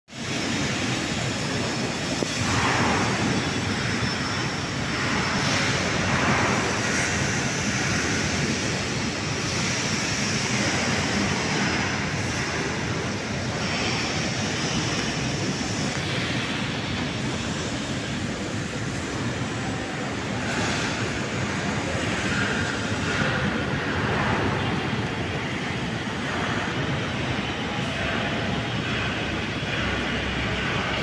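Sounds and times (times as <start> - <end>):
electric hoist running: 0.1 - 31.0.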